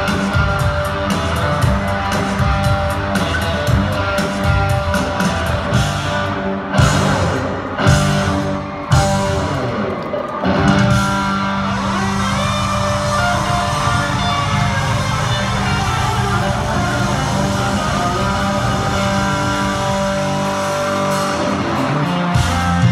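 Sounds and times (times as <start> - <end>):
country-rock band playing: 0.0 - 22.9
drums: 0.0 - 22.9
electric guitar: 0.0 - 22.9.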